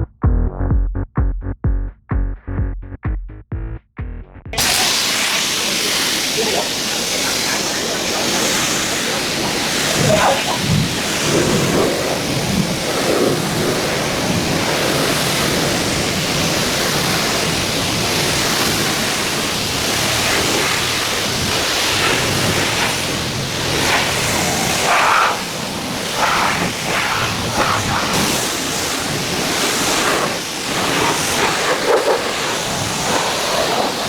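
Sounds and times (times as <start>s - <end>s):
pressure washer spraying water: 4.6s - 34.0s.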